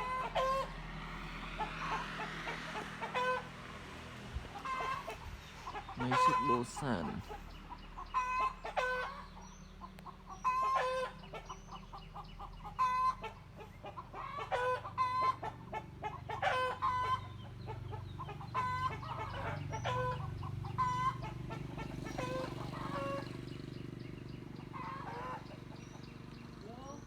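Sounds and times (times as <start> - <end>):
chickens clucking: 0.0 - 26.6.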